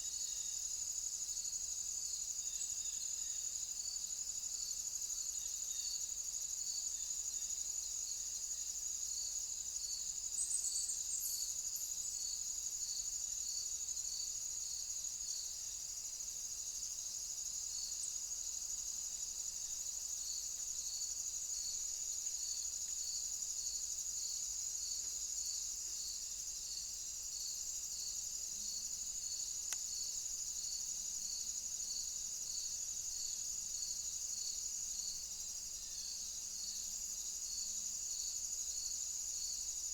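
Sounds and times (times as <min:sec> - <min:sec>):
insects trilling: 0:00.0 - 0:39.9
lower insect chirp: 0:00.0 - 0:39.9.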